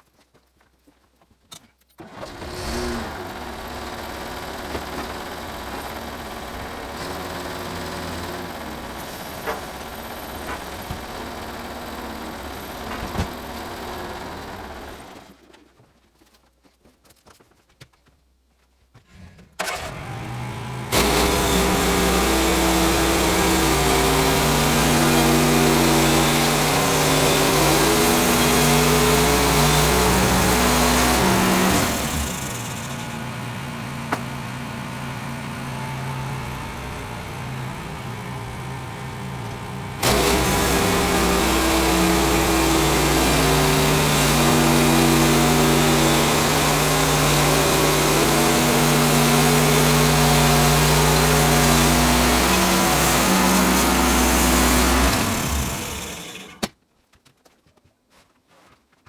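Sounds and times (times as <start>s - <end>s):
engine running: 2.0s - 15.4s, 19.6s - 56.7s.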